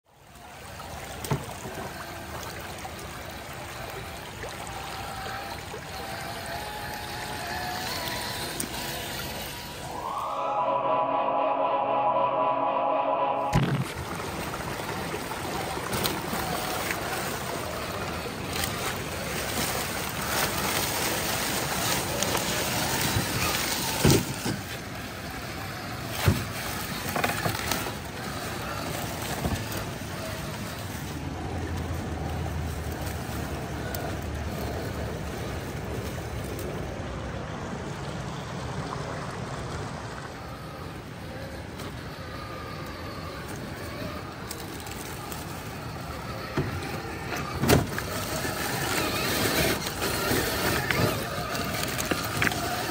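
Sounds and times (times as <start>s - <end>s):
creek water rushing: 0.1s - 52.9s.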